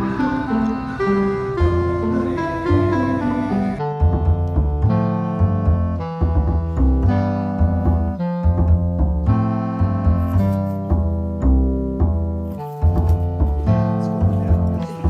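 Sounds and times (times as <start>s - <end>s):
piano with walking bass: 0.0s - 15.0s.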